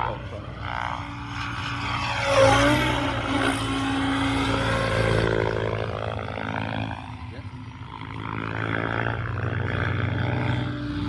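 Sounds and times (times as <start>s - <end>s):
radio-controlled helicopter flying: 0.0s - 11.0s.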